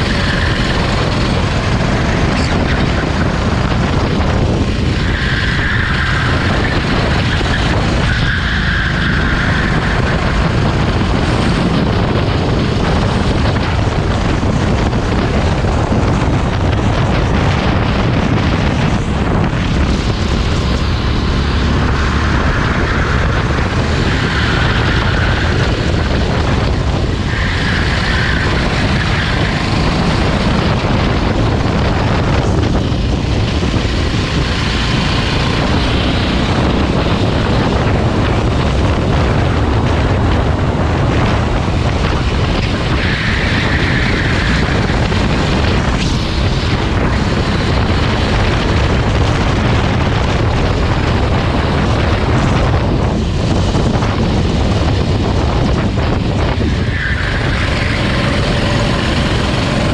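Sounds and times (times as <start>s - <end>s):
racing kart engine running hard: 0.0s - 59.9s
steady rushing noise: 0.0s - 59.9s.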